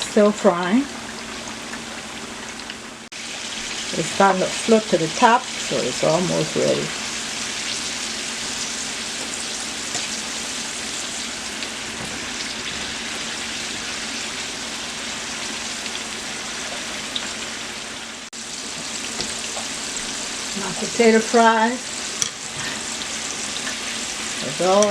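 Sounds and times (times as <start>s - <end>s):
fries sizzling in hot oil: 0.0s - 24.9s.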